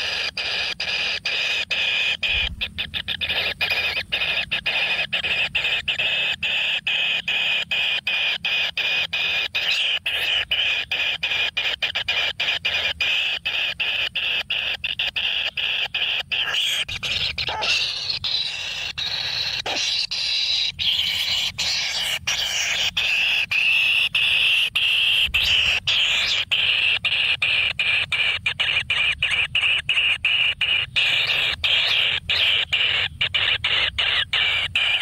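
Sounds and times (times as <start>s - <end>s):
bird nestling pulsing hiss calls: 0.0s - 35.0s.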